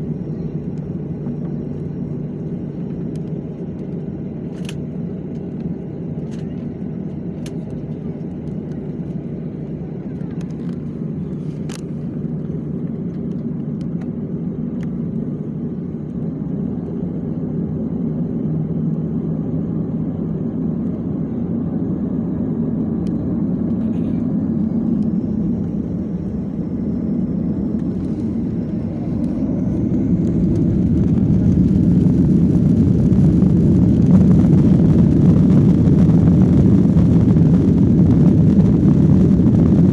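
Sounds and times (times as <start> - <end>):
jet engine whine rising: 0.0 - 39.9
jet engines humming in cabin: 0.0 - 39.9.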